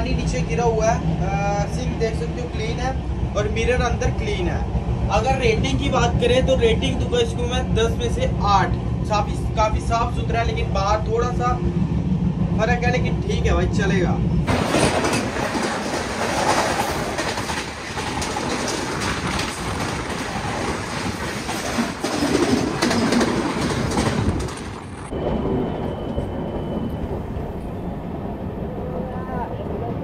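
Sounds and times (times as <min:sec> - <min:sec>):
passing train rushing and clatter: 0:00.0 - 0:30.0
train running rumble: 0:00.0 - 0:30.0.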